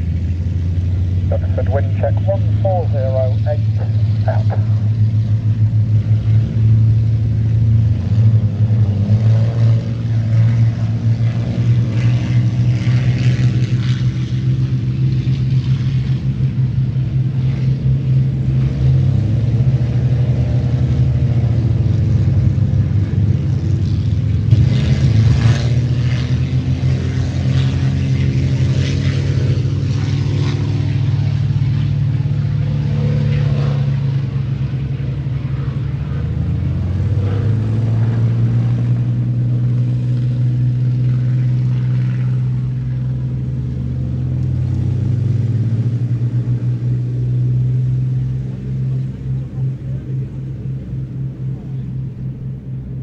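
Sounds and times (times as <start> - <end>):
aircraft piston engines droning: 0.0 - 53.0.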